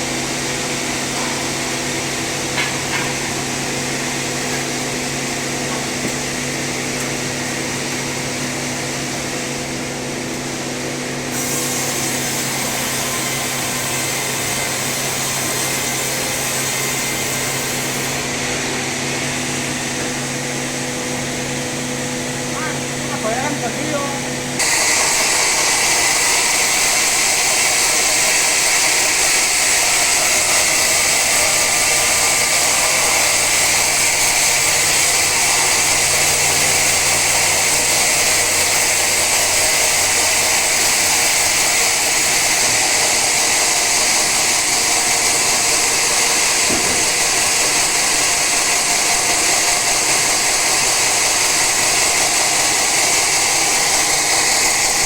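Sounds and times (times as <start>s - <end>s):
saw blade cutting log: 0.0s - 20.8s, 22.6s - 55.0s.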